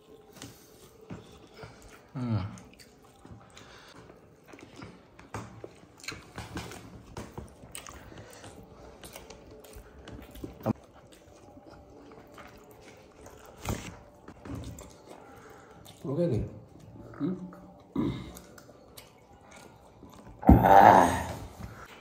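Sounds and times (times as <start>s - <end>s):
chewing and lip-smacking: 0.0s - 20.4s.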